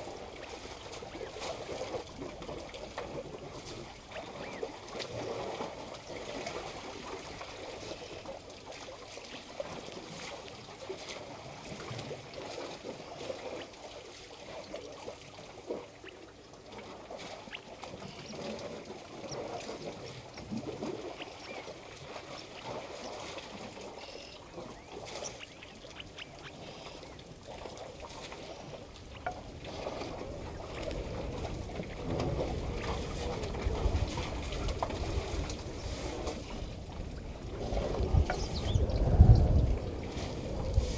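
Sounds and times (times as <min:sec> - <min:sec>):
small water splashes: 0:00.0 - 0:40.9
water sloshing and trickling: 0:00.0 - 0:40.9.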